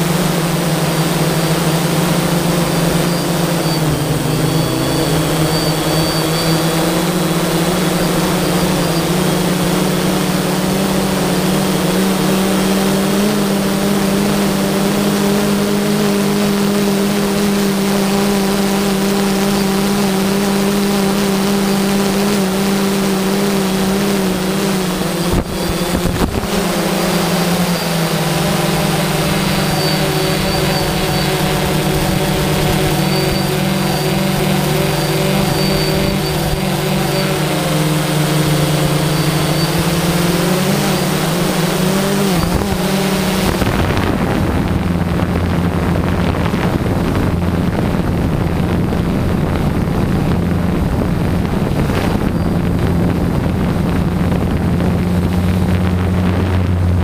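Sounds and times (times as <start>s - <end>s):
drone propellers whining: 0.0s - 57.0s.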